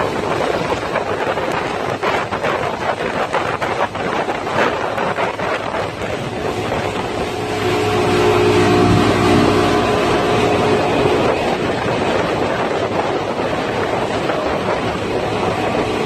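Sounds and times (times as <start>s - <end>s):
motorboat engine running: 0.0s - 16.0s
wind and water rushing: 0.0s - 16.0s.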